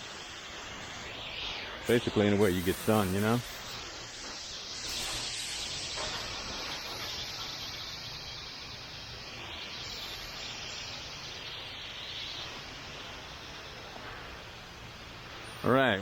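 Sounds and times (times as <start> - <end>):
hose spraying water: 0.0 - 16.0.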